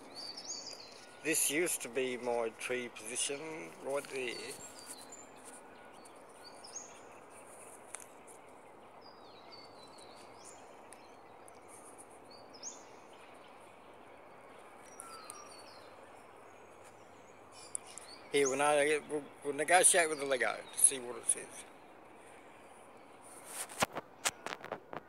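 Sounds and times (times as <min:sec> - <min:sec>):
low outdoor hiss: 0:00.0 - 0:24.8.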